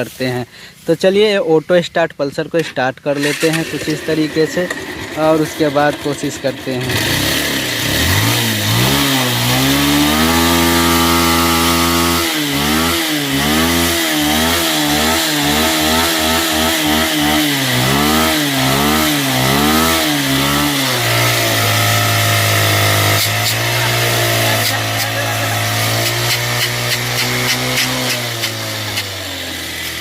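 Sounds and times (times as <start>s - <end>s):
motorcycle engine revving: 3.1s - 30.0s.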